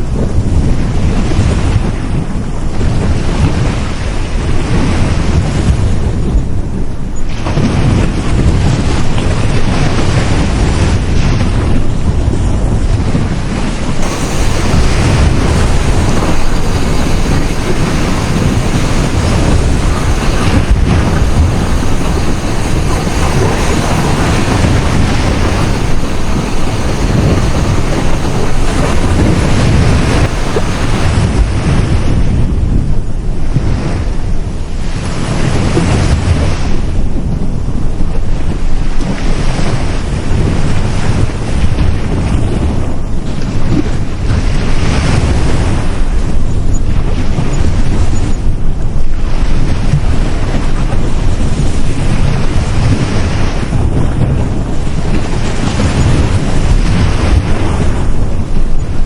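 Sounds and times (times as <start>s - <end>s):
waves breaking on a beach: 0.0s - 59.0s
wind buffeting microphone: 0.0s - 59.0s.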